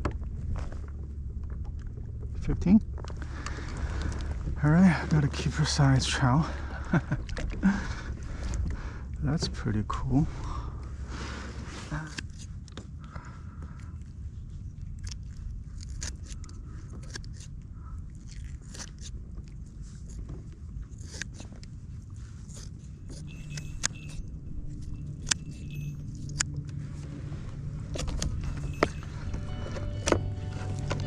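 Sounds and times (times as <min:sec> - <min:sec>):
faint steady hum: 0:00.0 - 0:31.0
steady low rumble: 0:00.0 - 0:31.0.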